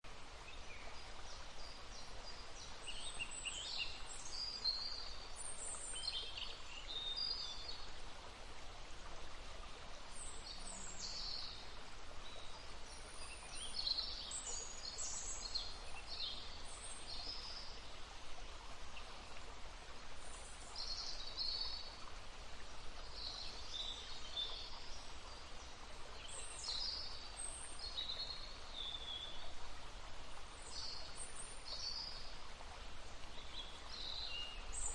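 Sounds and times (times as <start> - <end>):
small stream babbling: 0.0 - 34.9
songbirds singing: 0.3 - 7.9, 9.8 - 18.3, 20.2 - 29.6, 30.4 - 34.9.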